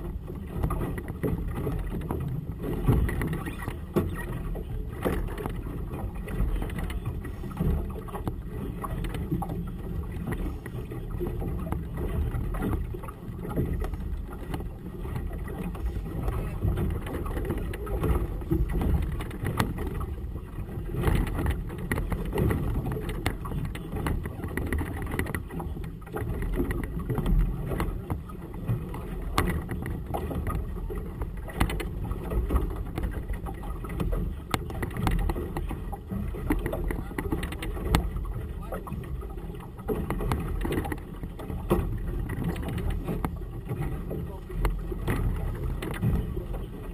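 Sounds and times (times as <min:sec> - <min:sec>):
water lapping against boat hull: 0:00.0 - 0:46.9
wind rumbling on microphone: 0:00.0 - 0:46.9.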